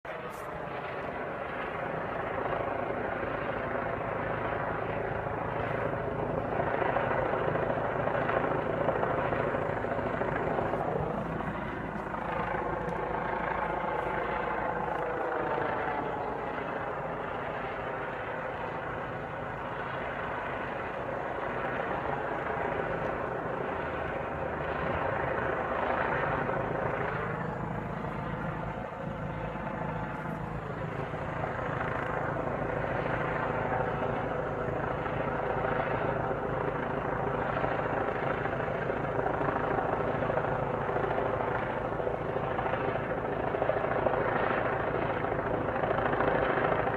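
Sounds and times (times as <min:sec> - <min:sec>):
droning noise from the sky: 0:00.0 - 0:46.9
steady low hum: 0:00.1 - 0:46.9.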